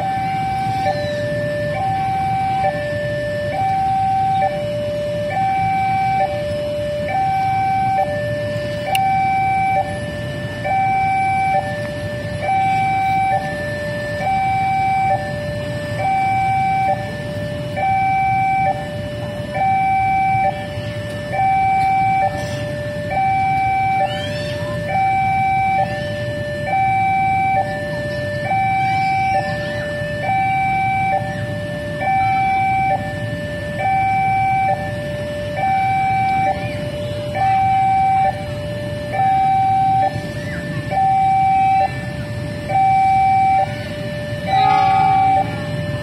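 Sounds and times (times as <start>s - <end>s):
two-tone crossing alarm: 0.0s - 46.0s.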